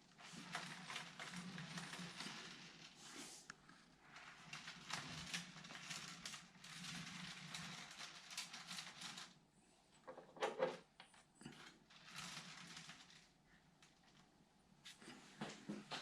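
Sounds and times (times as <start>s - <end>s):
rustling and handling noise: 0.0s - 16.0s.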